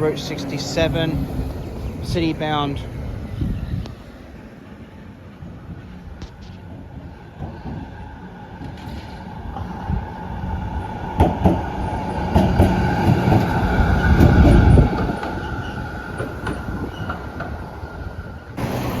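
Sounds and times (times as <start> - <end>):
tram passing: 0.0 - 19.0
wheels clicking over rail joints: 0.0 - 19.0.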